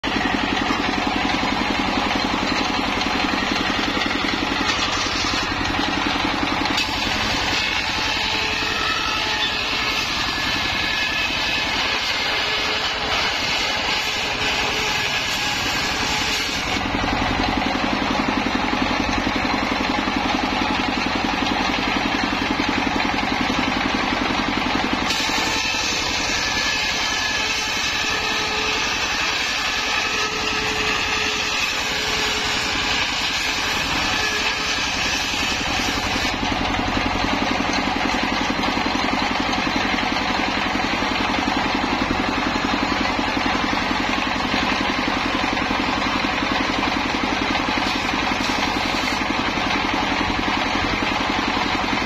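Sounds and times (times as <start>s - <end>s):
diesel engine running: 0.0s - 52.0s
saw blade cutting bamboo: 0.0s - 52.0s.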